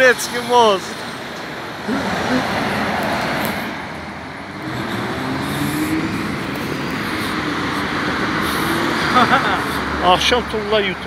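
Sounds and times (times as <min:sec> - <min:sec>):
road traffic passing: 0:00.0 - 0:11.0
vehicle engine tone rising: 0:01.4 - 0:10.6.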